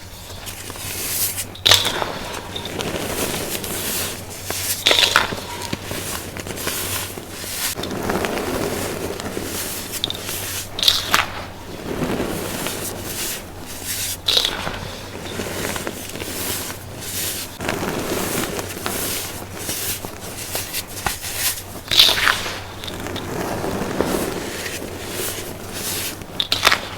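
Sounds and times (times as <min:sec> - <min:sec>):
soft powdery rustle: 0:00.0 - 0:26.9
baking soda crunching: 0:00.1 - 0:26.9.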